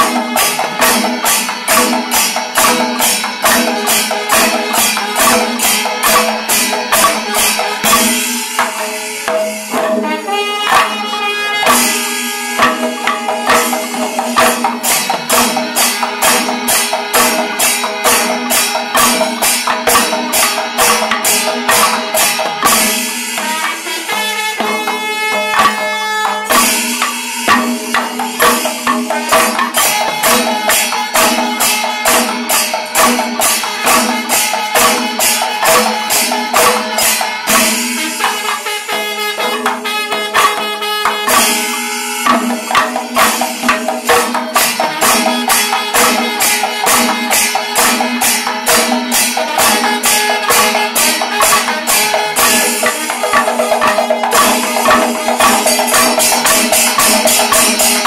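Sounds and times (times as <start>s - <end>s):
drums beaten with sticks: 0.0s - 58.0s
hand cymbals clashing: 0.0s - 58.0s.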